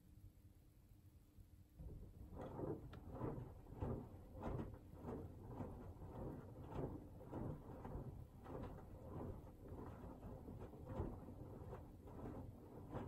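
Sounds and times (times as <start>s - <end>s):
water and laundry sloshing: 1.8s - 13.0s.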